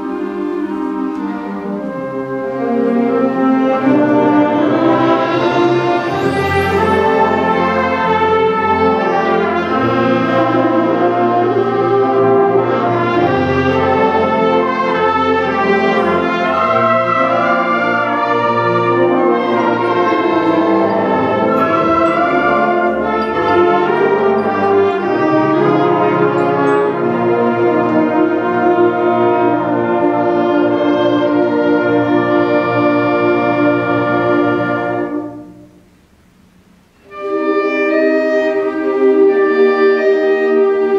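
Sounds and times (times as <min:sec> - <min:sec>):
concert band playing: 0:00.0 - 0:35.5.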